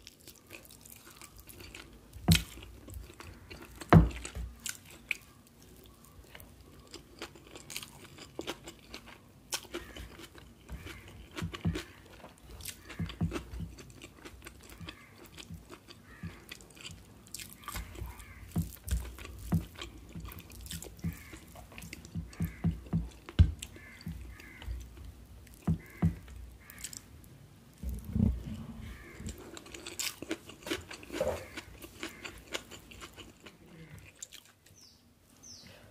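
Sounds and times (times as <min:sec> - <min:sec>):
chewing rice with mouth clicks: 0:00.0 - 0:27.0, 0:28.9 - 0:34.7.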